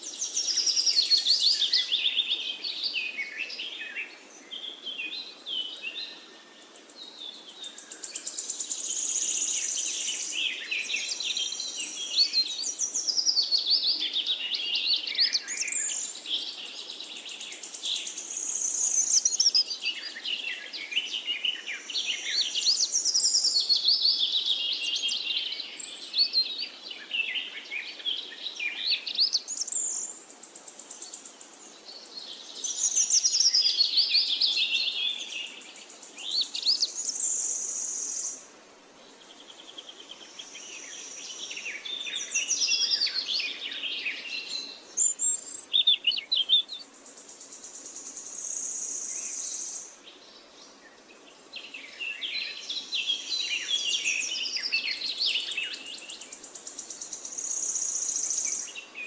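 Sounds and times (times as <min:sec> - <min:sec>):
birds chirping and singing: 0:00.0 - 0:38.4, 0:39.4 - 0:59.0.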